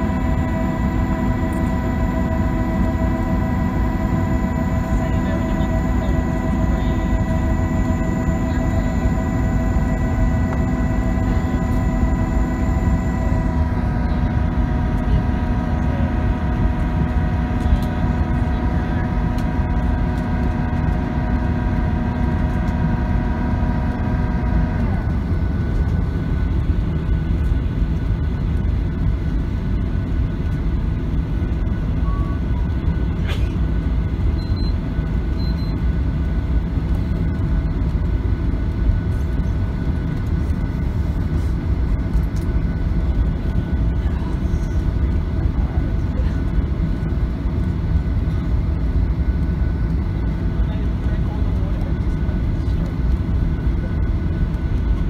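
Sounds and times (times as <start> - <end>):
jet engine low rumble: 0.0 - 55.0
steady whine: 0.0 - 55.0.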